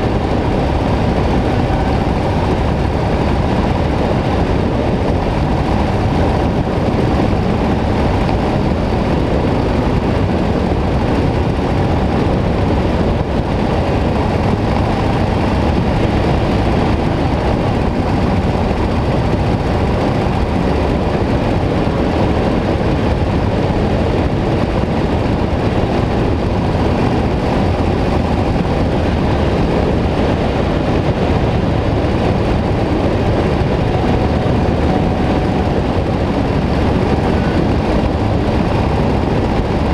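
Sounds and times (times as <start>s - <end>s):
motorcycle engine cruising: 0.0s - 39.9s
road noise: 0.0s - 39.9s
wind rush: 0.0s - 39.9s.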